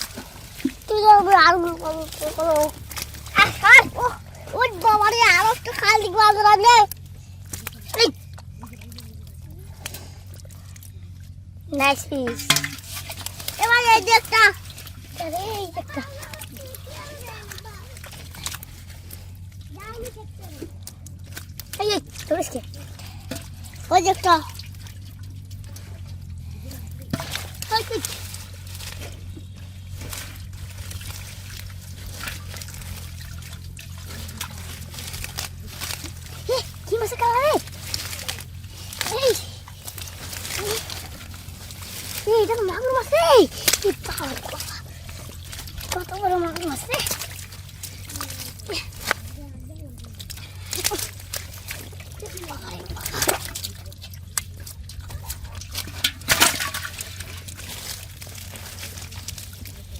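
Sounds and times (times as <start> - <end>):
shallow water sloshing: 0.0 - 59.9
steady low hum: 0.0 - 59.9.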